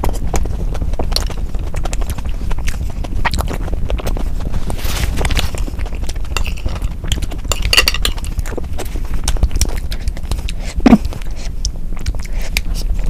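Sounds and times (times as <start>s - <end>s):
wet mouth clicks and chewing: 0.0s - 13.0s.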